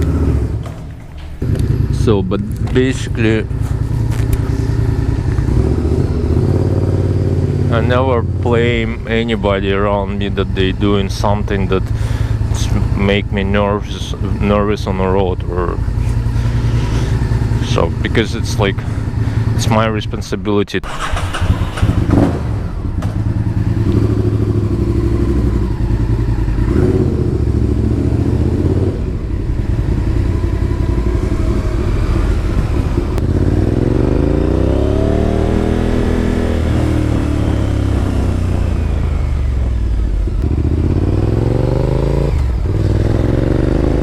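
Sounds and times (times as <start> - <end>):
motorcycle engine revving: 0.0 - 19.7, 20.8 - 44.0.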